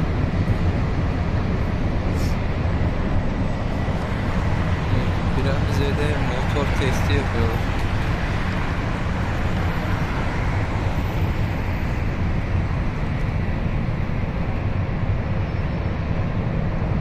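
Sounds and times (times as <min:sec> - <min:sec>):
jet engine running: 0:00.0 - 0:17.0.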